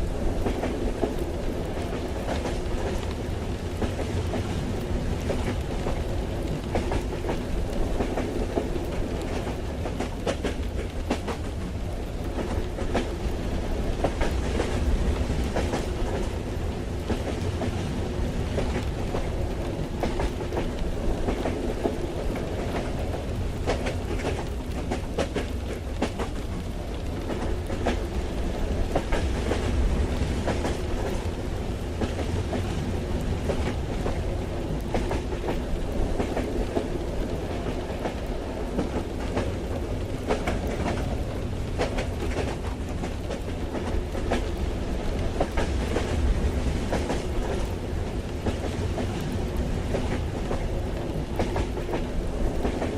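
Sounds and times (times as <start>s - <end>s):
train deep rumble: 0.0s - 52.9s
light ticks and clacks: 0.3s - 28.2s, 28.9s - 52.9s.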